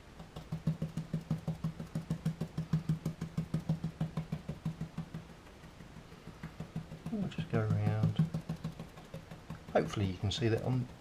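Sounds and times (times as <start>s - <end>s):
brush dabbing soft taps: 0.0s - 11.0s.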